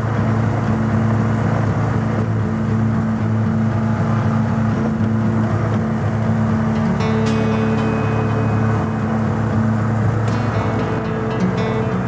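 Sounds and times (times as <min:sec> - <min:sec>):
motorcycle engine droning: 0:00.0 - 0:12.0
wind and road noise: 0:00.0 - 0:12.0.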